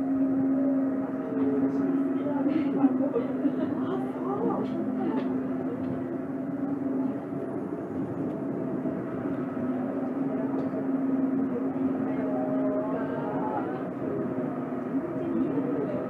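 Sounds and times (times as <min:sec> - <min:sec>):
low drive hum: 0:00.0 - 0:16.0
running gear rumble: 0:00.0 - 0:16.0.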